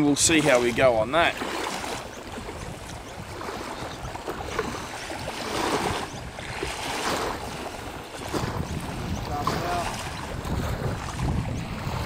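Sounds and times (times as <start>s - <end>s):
gusty wind across microphone: 0.0s - 12.0s
lake water lapping: 0.0s - 12.0s.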